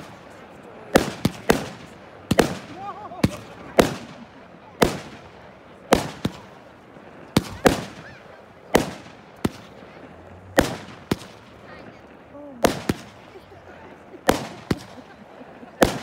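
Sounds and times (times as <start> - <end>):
fireworks bursting with echo: 0.0 - 16.0.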